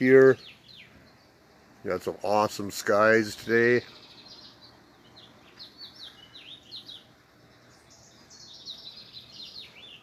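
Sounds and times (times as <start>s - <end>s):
small songbirds chirping: 0.0s - 10.0s.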